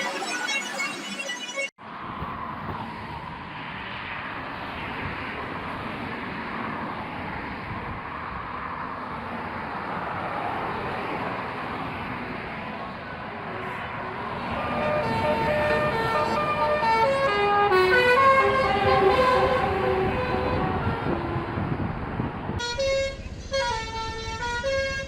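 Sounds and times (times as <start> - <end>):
large vehicles passing: 1.9 - 25.0.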